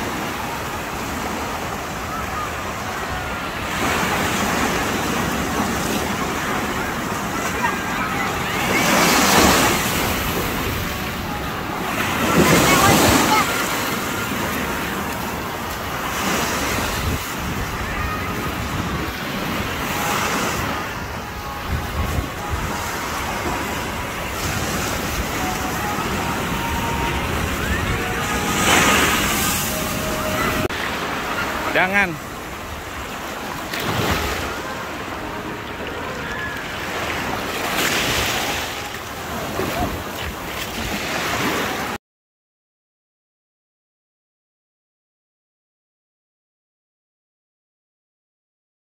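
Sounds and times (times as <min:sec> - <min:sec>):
surf waves breaking on beach: 0:00.0 - 0:42.0.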